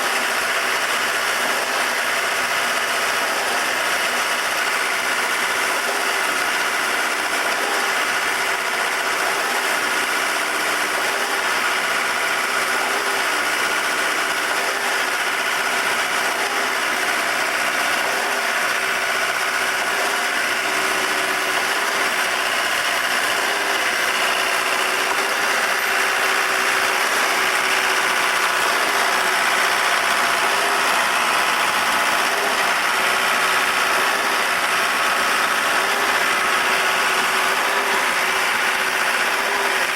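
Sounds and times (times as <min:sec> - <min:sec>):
concrete pump engine running: 0:00.0 - 0:39.9.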